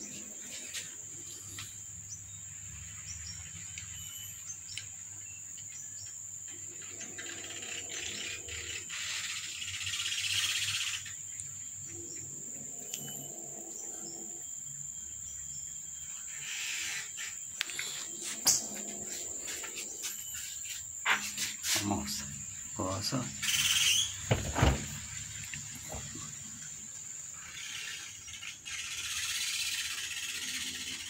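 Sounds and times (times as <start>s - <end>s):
high-pitched insect drone: 0.0s - 5.4s, 6.5s - 31.0s.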